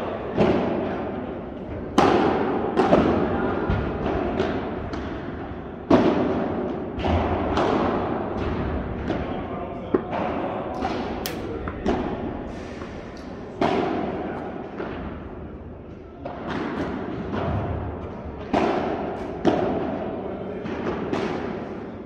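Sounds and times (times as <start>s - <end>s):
padel balls struck by rackets: 1.8s - 9.3s, 9.9s - 15.4s, 16.2s - 21.9s.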